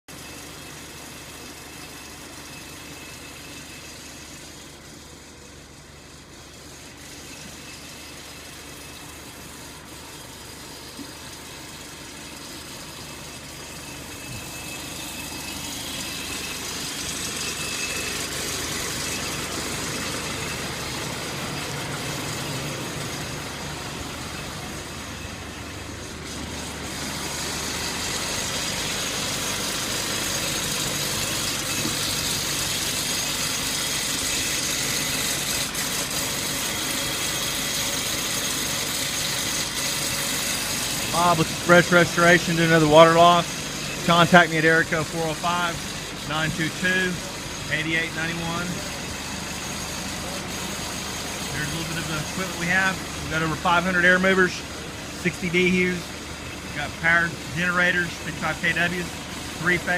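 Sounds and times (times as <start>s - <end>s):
engine idling: 0.1s - 59.9s.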